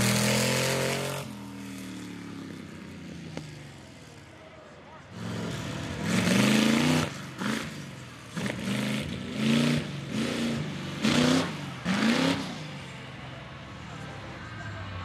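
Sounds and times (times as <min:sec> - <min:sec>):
truck engine revving: 0:00.0 - 0:04.1, 0:05.0 - 0:13.4.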